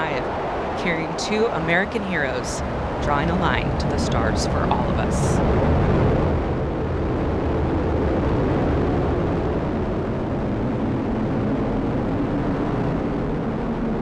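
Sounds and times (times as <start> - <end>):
rocket engine roar: 0.0 - 14.0.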